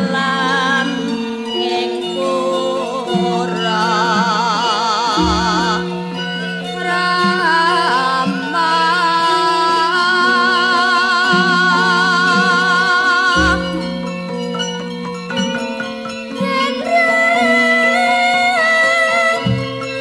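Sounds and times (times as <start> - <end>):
woman singing with vibrato: 0.0 - 14.0, 16.4 - 20.0
ringing metallophone tones: 0.0 - 20.0.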